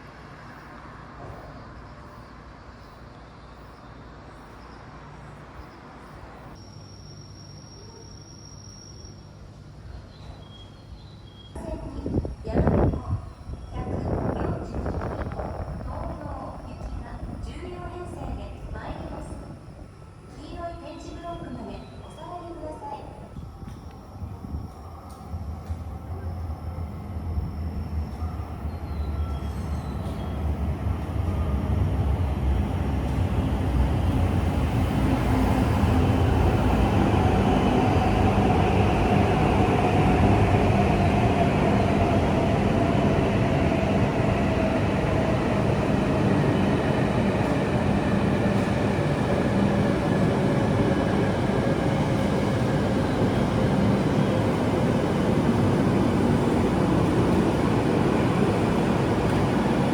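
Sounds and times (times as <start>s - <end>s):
train rumble and rail noise: 0.0s - 59.9s.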